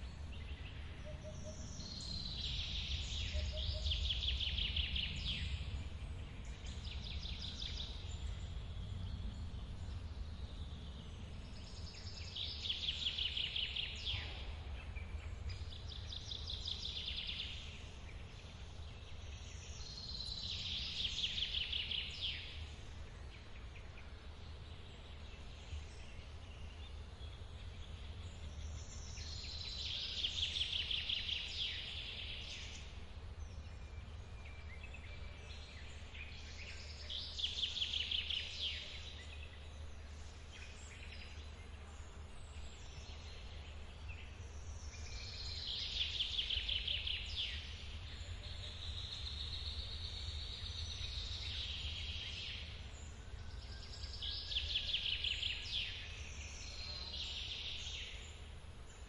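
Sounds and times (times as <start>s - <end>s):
songbird trilling song: 0.0s - 59.0s.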